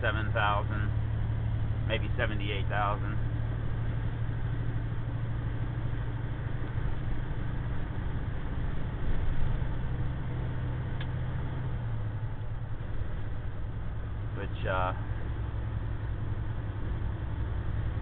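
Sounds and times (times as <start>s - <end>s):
road noise: 0.0s - 18.0s
truck diesel engine drone: 0.0s - 18.0s.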